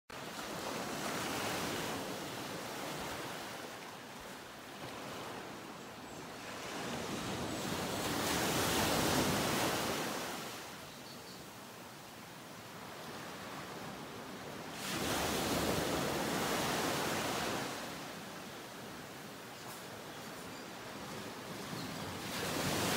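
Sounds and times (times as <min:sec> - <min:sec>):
ocean surf on sandy beach: 0:00.1 - 0:22.9.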